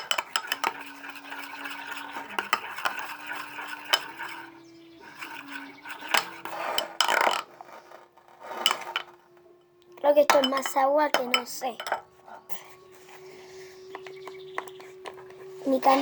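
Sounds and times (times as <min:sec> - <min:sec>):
faint steady hum: 0:00.0 - 0:16.0
spoon scraping plastic tub: 0:00.0 - 0:16.0.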